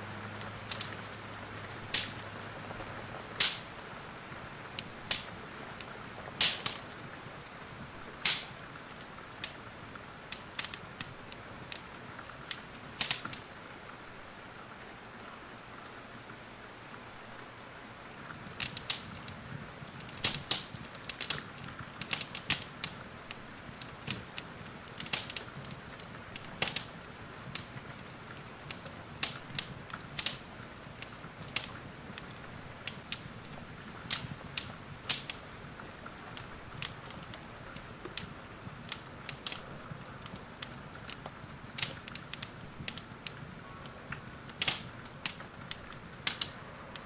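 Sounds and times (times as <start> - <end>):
rain hiss: 0.0 - 47.0
fire crackling and popping: 0.1 - 14.4, 18.0 - 47.0.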